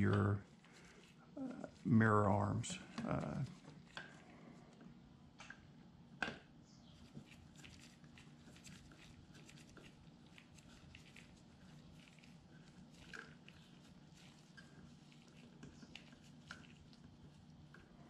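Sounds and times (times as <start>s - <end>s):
low steady room hum: 0.0s - 18.0s.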